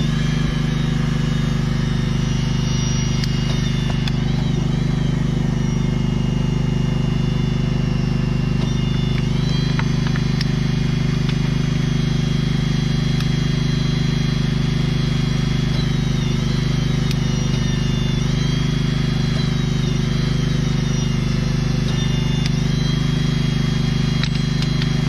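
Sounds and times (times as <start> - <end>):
machinery humming: 0.0 - 25.0.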